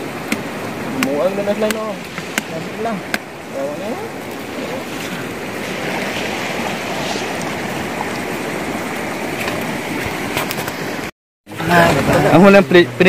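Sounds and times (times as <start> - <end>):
sea waves on shore: 0.0 - 13.0.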